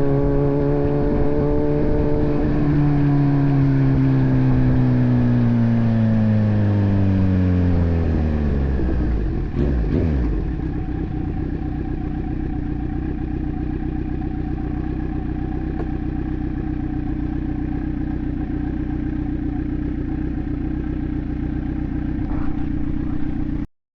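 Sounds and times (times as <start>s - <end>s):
motorcycle engine revving down and idling: 0.0s - 23.7s.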